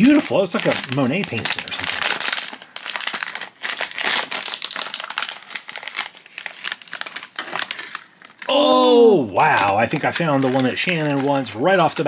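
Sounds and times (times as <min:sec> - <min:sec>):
plastic bag crinkling: 0:00.0 - 0:08.5, 0:09.4 - 0:12.0.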